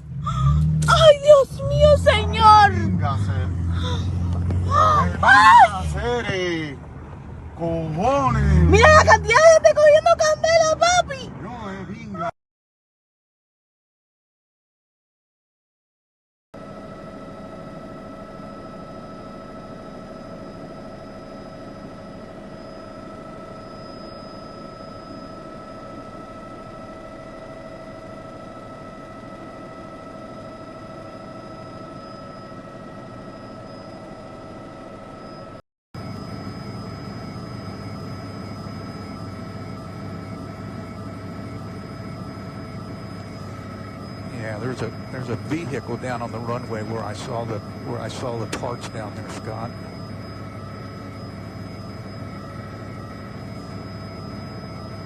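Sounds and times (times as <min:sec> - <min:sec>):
high-pitched whine tones: 0:00.0 - 0:12.3, 0:16.6 - 0:55.0
helicopter cabin drone: 0:00.0 - 0:12.4, 0:16.6 - 0:55.0.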